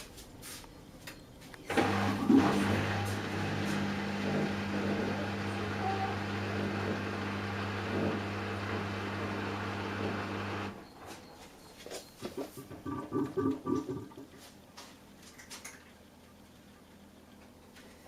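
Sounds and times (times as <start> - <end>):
washing machine humming: 1.0 - 18.0.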